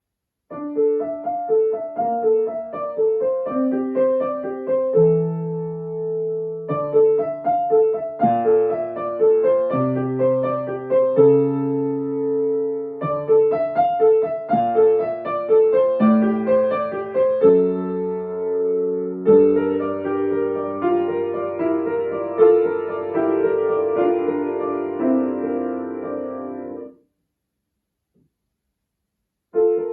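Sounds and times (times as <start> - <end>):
solo piano piece: 0.0 - 27.1, 29.4 - 29.9.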